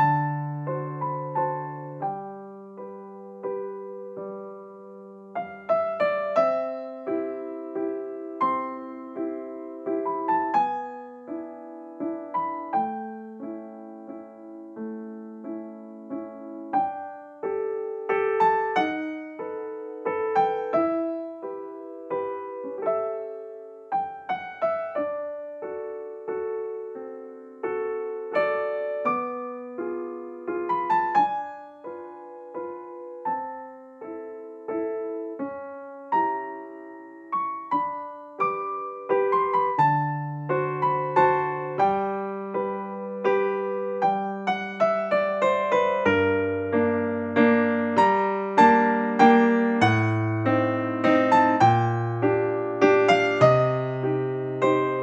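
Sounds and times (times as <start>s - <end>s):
piano piece: 0.0s - 55.0s.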